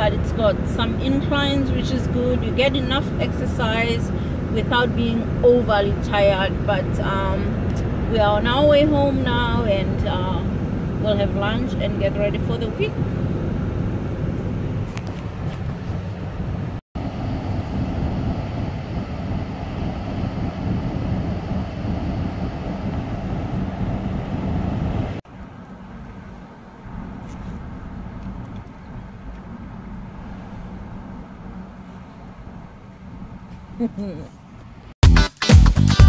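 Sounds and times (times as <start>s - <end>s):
tyre and wind noise in car: 0.0s - 35.0s.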